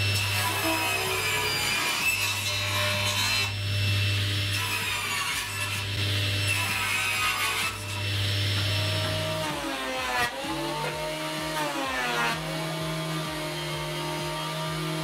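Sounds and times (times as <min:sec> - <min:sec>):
table saw cutting board: 0:00.0 - 0:15.0.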